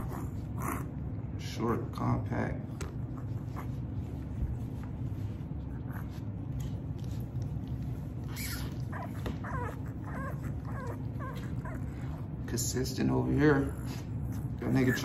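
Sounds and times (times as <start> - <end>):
puppy whimpering: 0.0 - 1.2, 2.8 - 4.8, 5.6 - 15.0.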